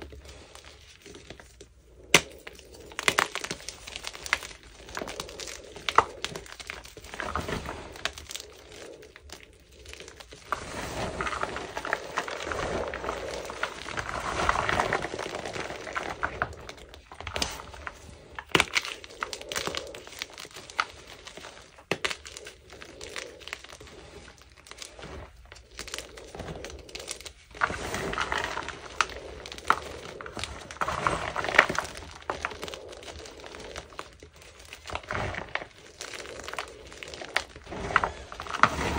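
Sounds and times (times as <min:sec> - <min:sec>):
chalk crunching by hand: 0:00.1 - 0:38.9.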